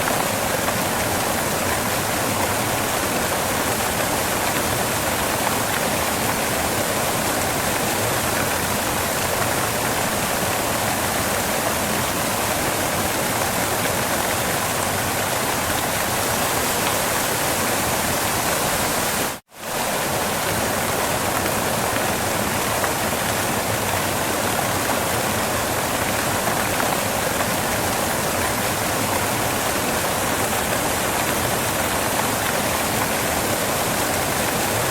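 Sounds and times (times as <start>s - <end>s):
waterfall pouring: 0.0s - 34.9s.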